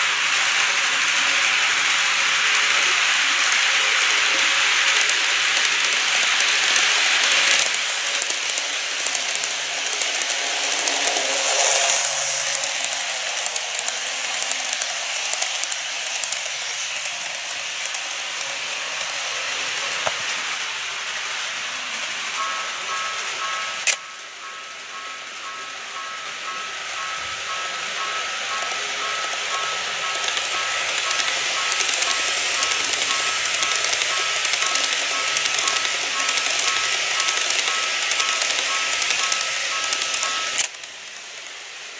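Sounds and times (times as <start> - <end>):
model train running on track: 0.0 - 41.9.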